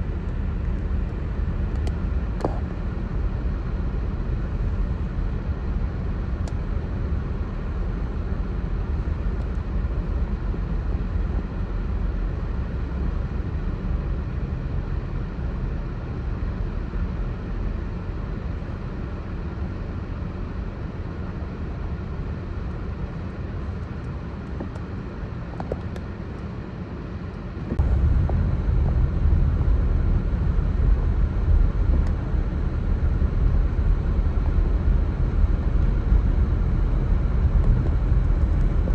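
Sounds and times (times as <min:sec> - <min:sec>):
low outdoor rumble: 0:00.0 - 0:38.9.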